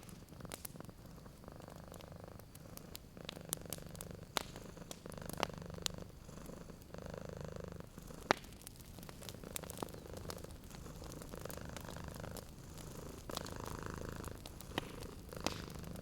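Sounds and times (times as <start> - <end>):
cat purring: 0.0 - 16.0
wood fire crackling and popping: 0.0 - 16.0.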